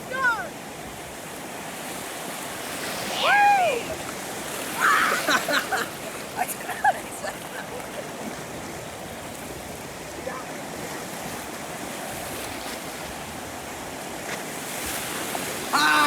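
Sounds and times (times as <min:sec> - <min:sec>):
ocean surf washing: 0:00.0 - 0:16.0.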